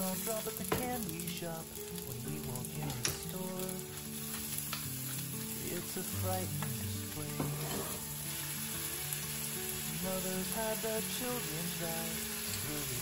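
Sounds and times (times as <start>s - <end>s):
shrimp sizzling in oil: 0.0s - 13.0s
soft background music: 0.0s - 13.0s.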